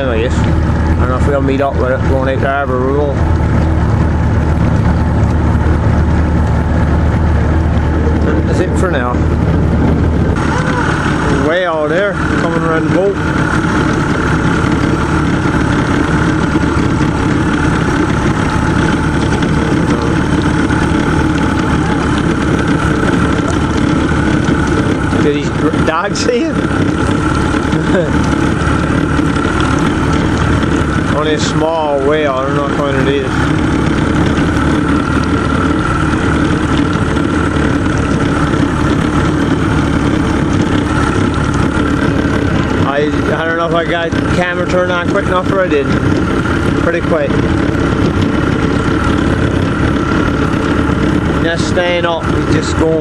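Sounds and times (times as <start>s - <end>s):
motorboat engine droning: 0.0s - 53.0s.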